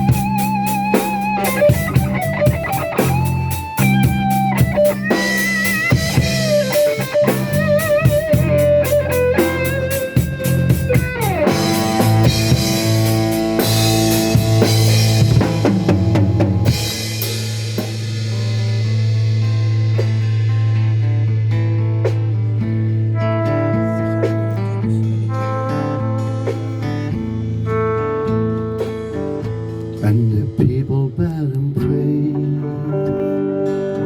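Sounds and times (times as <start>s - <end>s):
drum kit with cymbals: 0.0s - 29.9s
bass guitar: 0.0s - 34.0s
electric lead guitar melody: 0.0s - 34.0s.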